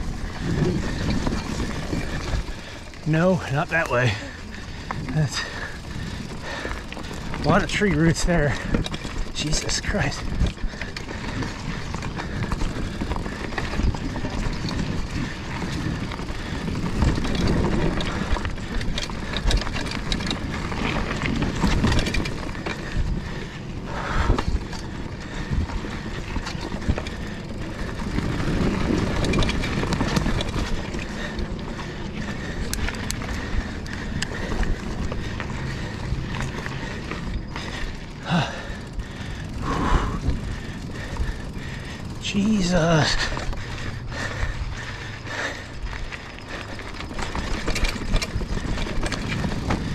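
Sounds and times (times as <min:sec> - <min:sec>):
bike clattering over bumps: 0:00.0 - 0:49.9
bike tyre rumble: 0:00.0 - 0:49.9.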